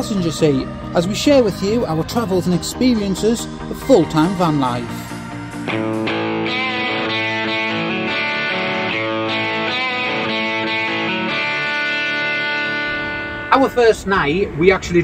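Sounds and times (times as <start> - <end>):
guitar theme music: 0.0 - 14.6.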